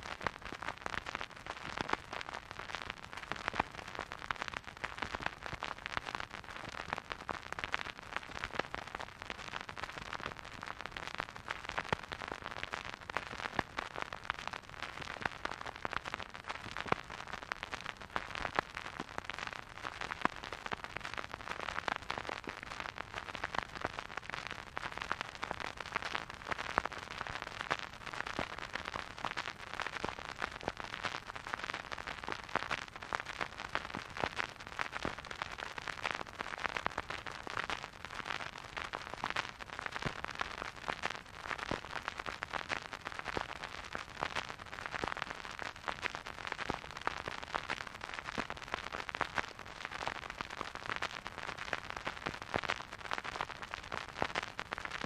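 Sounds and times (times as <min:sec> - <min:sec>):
vinyl record crackle: 0:00.0 - 0:55.0.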